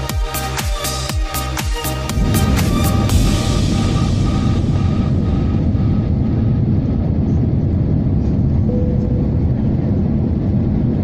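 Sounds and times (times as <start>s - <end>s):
jet engines rumbling in cabin: 2.1s - 11.0s.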